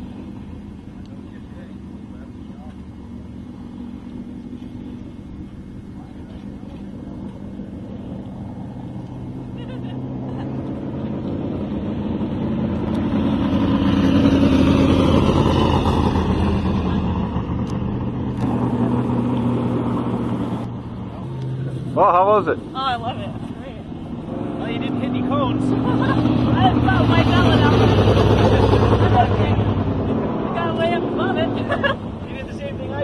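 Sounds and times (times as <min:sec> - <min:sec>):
race car engine running: 0:00.0 - 0:33.0.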